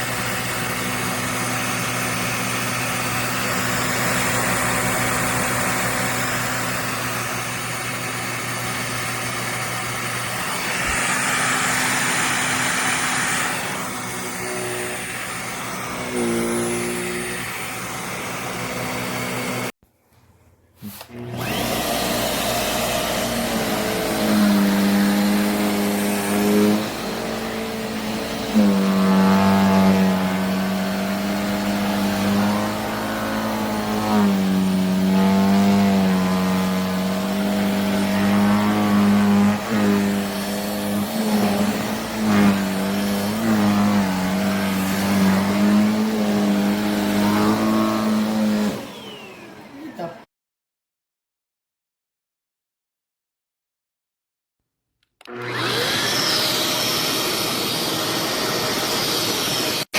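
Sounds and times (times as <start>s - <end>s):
vacuum cleaner motor hum: 0.0s - 19.7s, 20.8s - 50.1s, 55.2s - 59.9s.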